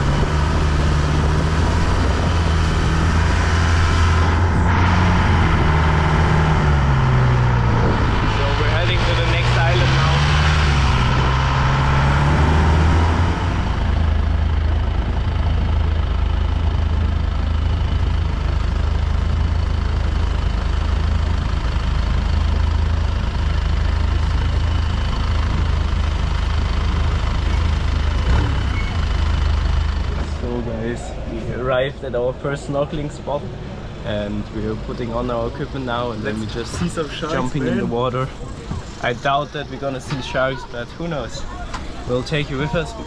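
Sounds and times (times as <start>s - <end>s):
boat engine drone: 0.0s - 43.0s.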